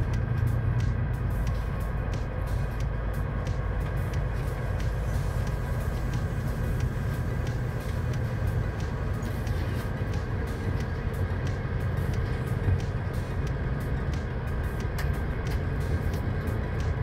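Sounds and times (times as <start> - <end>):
passenger train rumble: 0.0 - 17.0.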